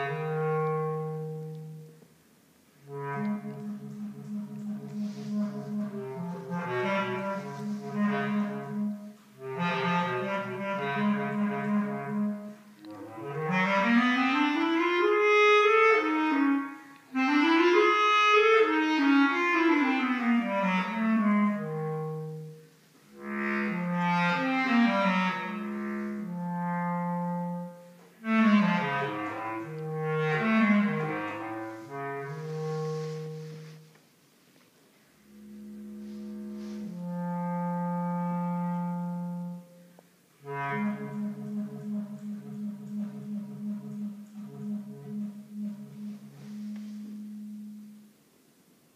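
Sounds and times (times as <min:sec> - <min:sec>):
bass clarinet playing: 0:00.0 - 0:02.0, 0:02.8 - 0:34.0, 0:35.2 - 0:48.2.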